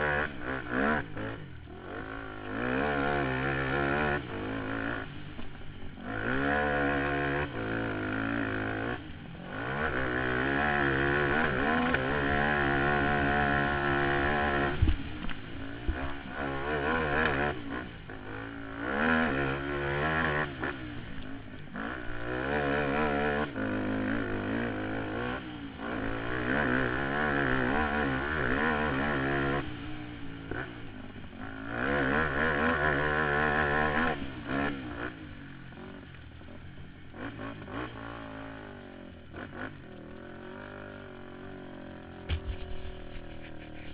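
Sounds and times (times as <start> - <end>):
quad bike engine revving: 0.0 - 43.9.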